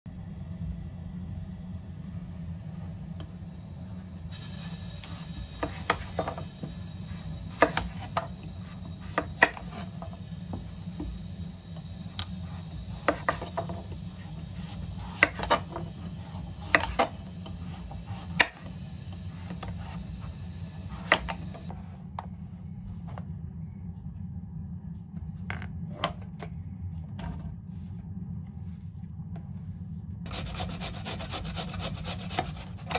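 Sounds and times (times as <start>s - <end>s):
low hum: 0.1s - 32.9s.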